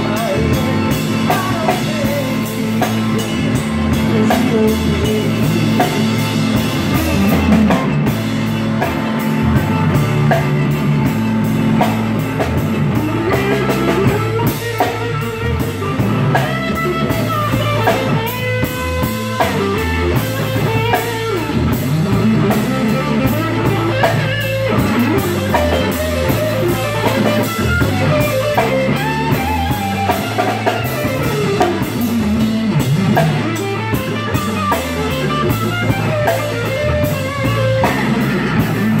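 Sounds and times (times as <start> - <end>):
drum kit: 0.0 - 39.0
electric bass: 0.0 - 39.0
electric guitar lead: 0.0 - 39.0.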